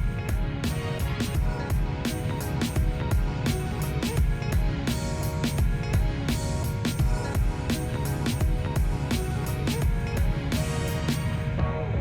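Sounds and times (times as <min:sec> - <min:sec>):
drum kit beat: 0:00.0 - 0:11.4
sustained instrumental chords: 0:00.0 - 0:12.0.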